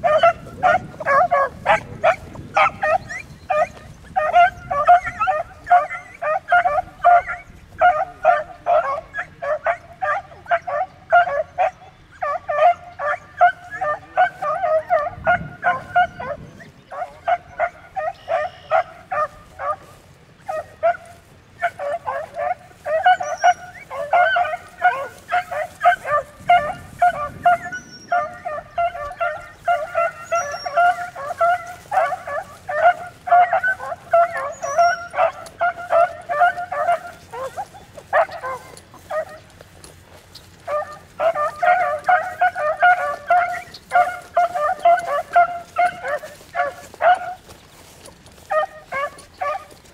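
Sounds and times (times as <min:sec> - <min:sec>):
hounds baying: 0:00.0 - 0:49.9.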